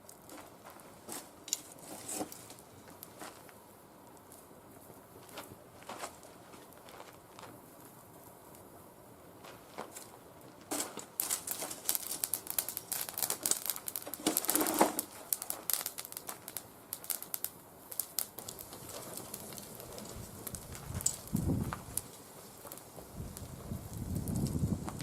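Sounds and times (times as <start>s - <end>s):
twigs crackling and popping in fire: 0.0s - 4.5s, 9.4s - 25.0s.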